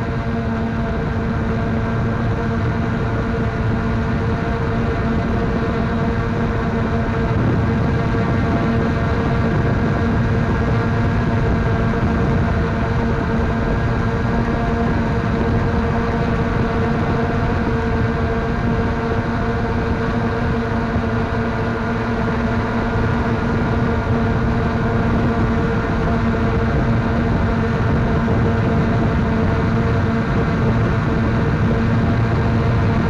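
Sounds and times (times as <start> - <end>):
drone propellers humming: 0.0 - 33.0
steady rushing noise: 0.0 - 33.0.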